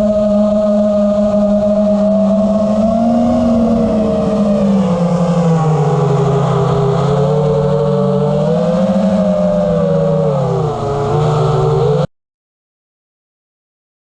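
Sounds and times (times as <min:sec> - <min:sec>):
quadcopter motors whining: 0:00.0 - 0:12.1.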